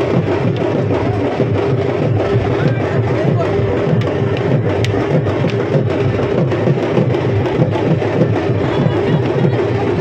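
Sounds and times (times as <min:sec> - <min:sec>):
fast loud drumming: 0:00.0 - 0:10.0.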